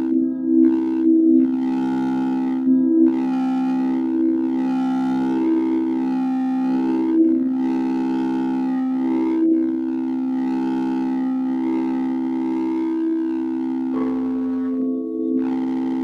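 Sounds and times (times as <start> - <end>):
singing bowls droning: 0.0 - 16.0.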